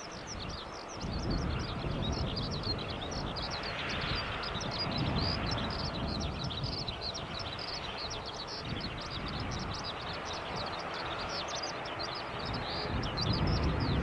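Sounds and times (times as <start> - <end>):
distant turboprop engines rumbling: 0.0 - 14.0.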